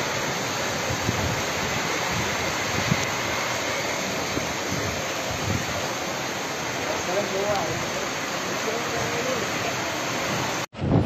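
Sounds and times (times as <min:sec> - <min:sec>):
heavy rain pouring: 0:00.0 - 0:11.0
wind gusts buffeting microphone: 0:00.3 - 0:11.0.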